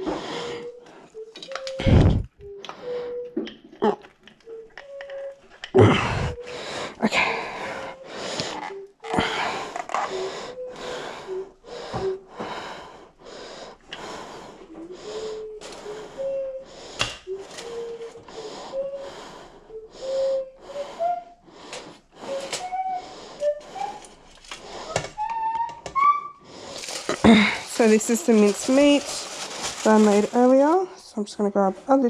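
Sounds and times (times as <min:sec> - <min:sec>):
rapid panting breaths: 0:00.0 - 0:03.2, 0:05.1 - 0:25.3, 0:26.4 - 0:30.8
thin wheezy squeaks: 0:00.0 - 0:12.4, 0:14.3 - 0:30.8.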